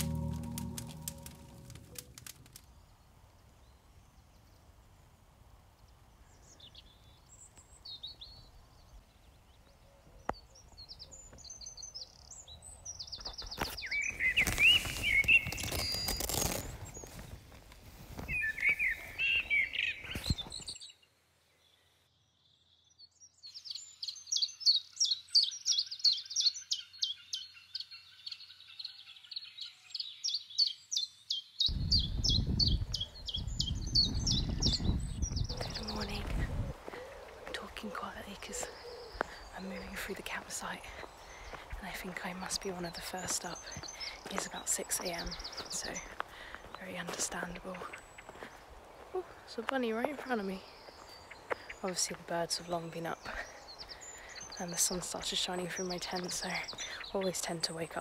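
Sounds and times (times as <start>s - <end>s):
birds singing and chirping: 6.3s - 17.2s, 18.2s - 21.0s, 22.6s - 58.0s.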